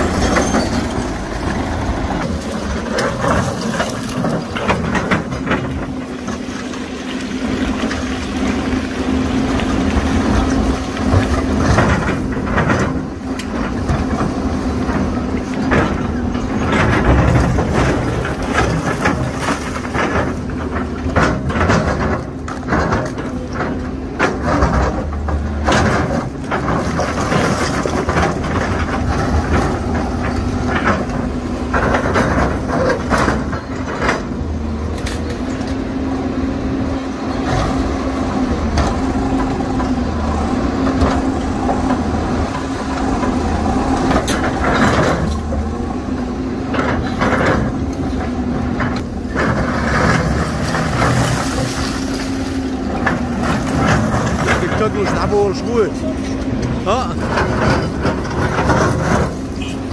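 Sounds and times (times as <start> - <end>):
heavy diesel engines under load: 0.0 - 59.9.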